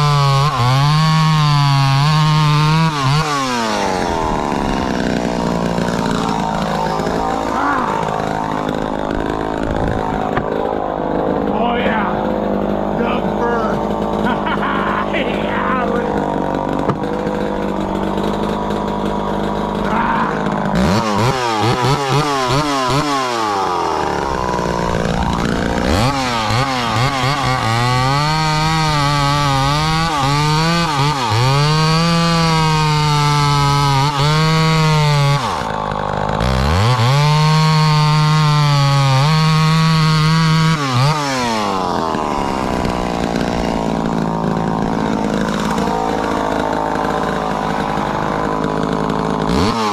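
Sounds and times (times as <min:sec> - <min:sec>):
two-stroke chainsaw revving: 0:00.0 - 0:49.9.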